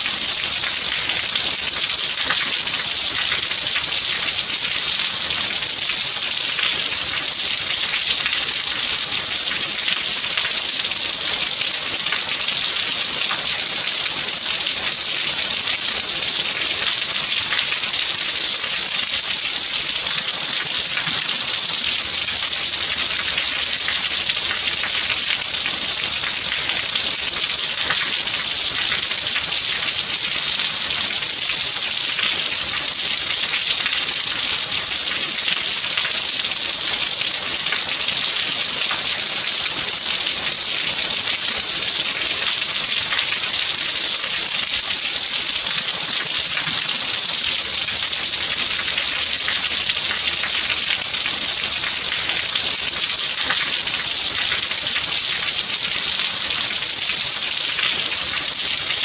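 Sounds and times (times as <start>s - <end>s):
steady rain hiss: 0.0s - 51.8s.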